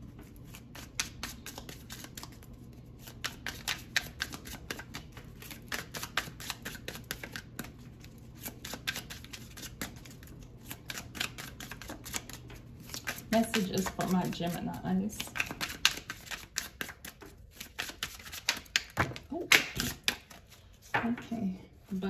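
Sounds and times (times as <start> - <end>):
cards being shuffled: 0.2 - 2.4, 3.0 - 14.6, 15.2 - 21.0.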